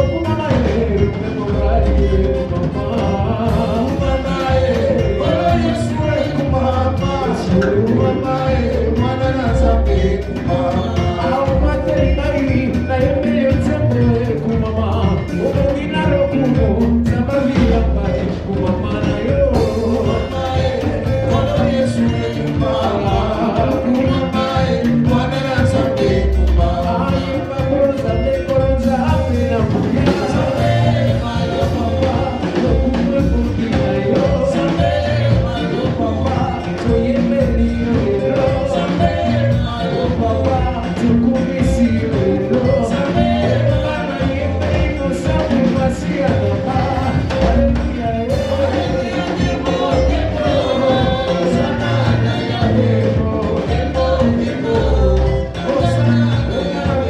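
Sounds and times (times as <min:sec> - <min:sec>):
bass guitar: 0:00.0 - 0:57.0
drums: 0:00.0 - 0:57.0
live band playing worship song: 0:00.0 - 0:57.0
person singing: 0:00.0 - 0:57.0.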